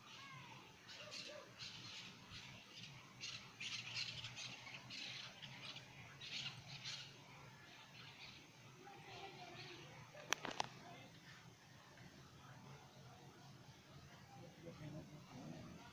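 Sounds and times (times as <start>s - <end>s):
faint birds squawking and chirping: 0.0s - 15.9s.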